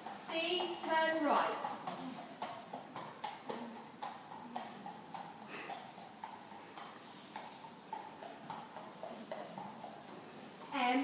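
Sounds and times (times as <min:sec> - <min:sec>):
horse hoofbeats on sand: 0:00.0 - 0:11.0.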